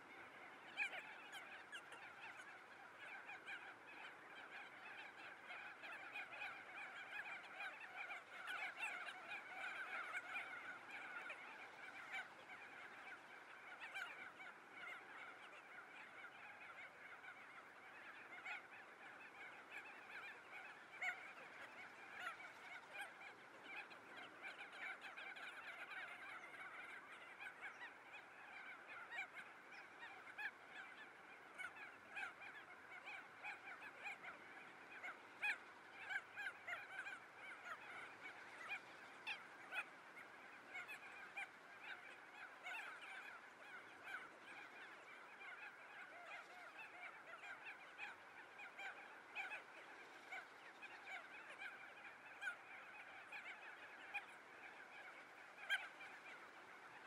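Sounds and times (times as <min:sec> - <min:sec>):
chorus of animal calls: 0:00.0 - 0:57.0.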